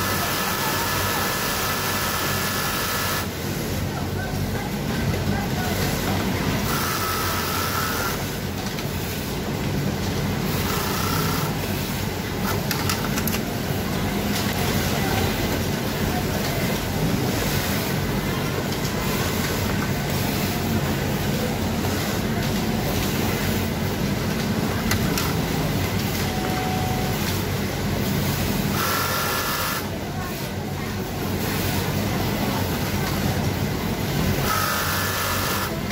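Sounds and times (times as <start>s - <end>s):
sewing machines humming and rattling: 0.0s - 35.9s.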